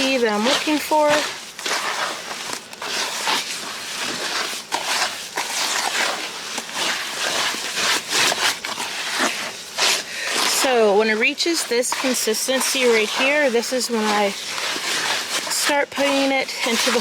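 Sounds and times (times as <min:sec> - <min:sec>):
scraping in mortar: 0:00.0 - 0:17.0
wet mortar churning: 0:00.0 - 0:17.0.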